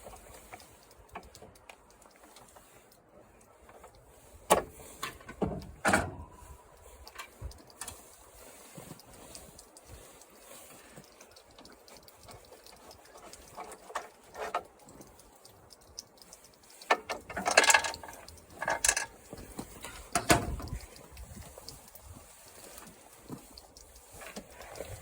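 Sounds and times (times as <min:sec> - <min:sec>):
hand tools clicking and clattering: 0:00.0 - 0:25.0.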